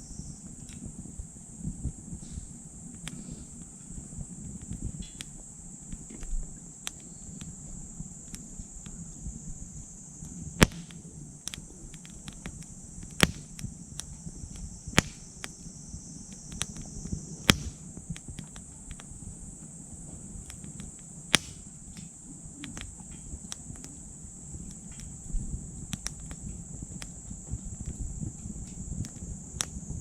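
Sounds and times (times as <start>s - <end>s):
insect chirring: 0.0s - 30.0s
sharp pops of fire: 0.0s - 30.0s
wood fire crackling: 0.0s - 30.0s.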